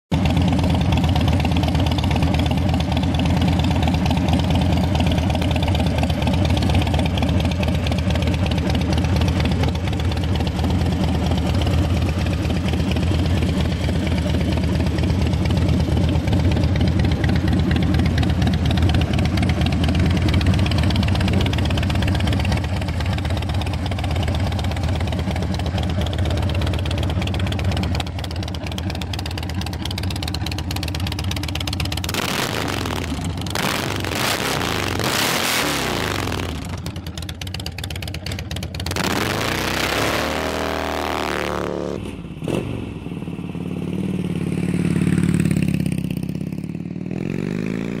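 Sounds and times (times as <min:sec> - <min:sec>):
motorcycle engine idling and revving: 0:00.1 - 0:48.0.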